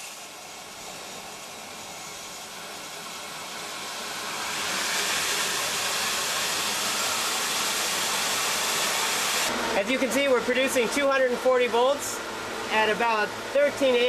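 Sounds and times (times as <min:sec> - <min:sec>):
water rushing through turbine: 0:00.0 - 0:12.0.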